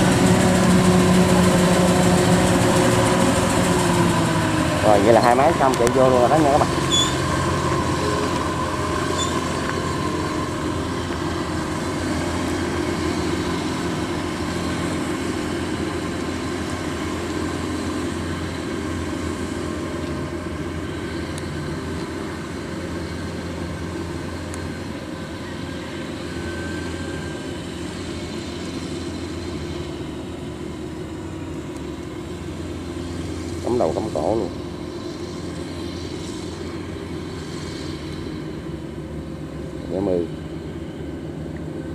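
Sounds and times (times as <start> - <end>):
combine harvester diesel engine: 0.0 - 41.9.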